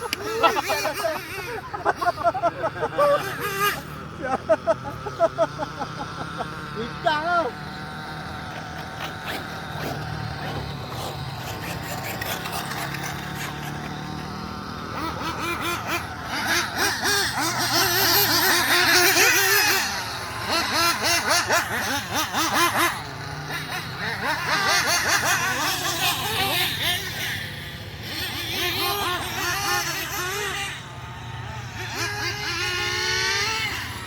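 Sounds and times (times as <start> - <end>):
nitro engine revving: 0.0 - 34.0.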